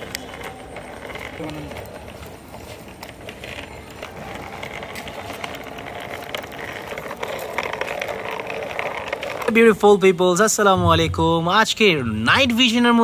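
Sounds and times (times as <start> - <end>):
toy wheels rattling on concrete: 0.0 - 10.8, 11.4 - 13.0.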